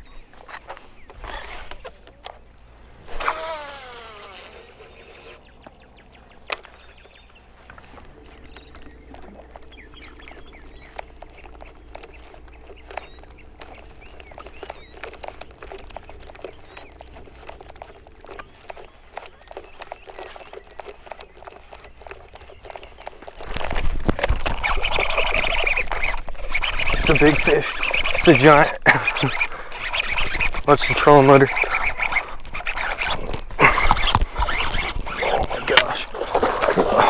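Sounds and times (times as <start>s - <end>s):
birds chirping: 0.0s - 37.0s
irregular clicks and ticks: 3.3s - 36.7s.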